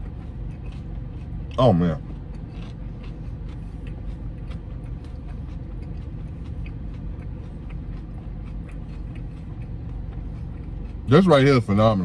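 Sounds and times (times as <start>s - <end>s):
chewing clicks: 0.0s - 11.2s
car engine idling: 0.0s - 12.0s.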